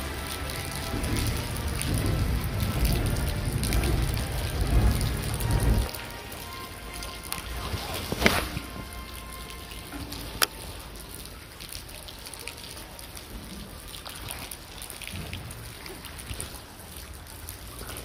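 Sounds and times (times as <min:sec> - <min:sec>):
rain falling: 0:00.0 - 0:18.0
running water: 0:00.0 - 0:18.0.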